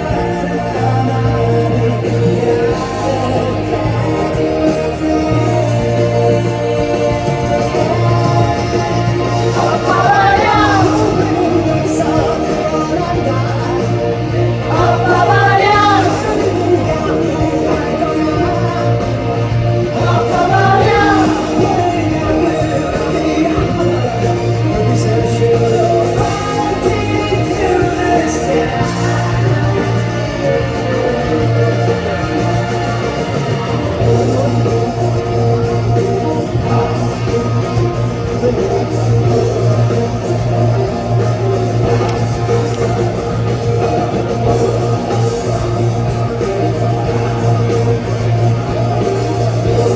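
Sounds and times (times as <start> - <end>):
bass line: 0.0 - 49.9
guitars strumming: 0.0 - 49.9
live rock band playing: 0.0 - 49.9
man singing: 0.0 - 49.9.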